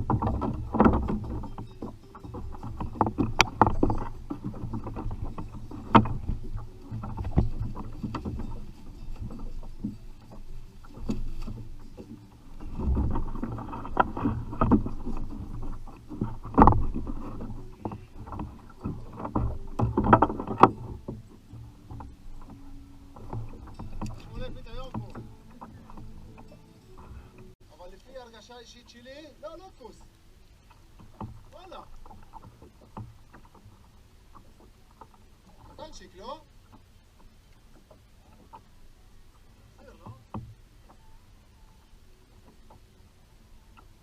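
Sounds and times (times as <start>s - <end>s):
knocks and clatter on kayak: 0.0s - 44.0s
water sounds: 0.0s - 44.0s.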